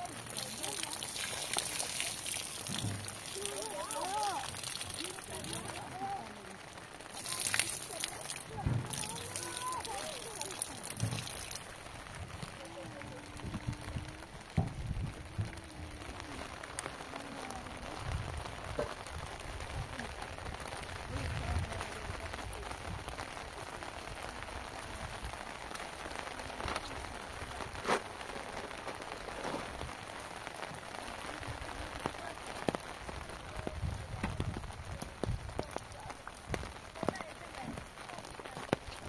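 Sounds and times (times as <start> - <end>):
rain falling on rocky ground: 0.0 - 39.0.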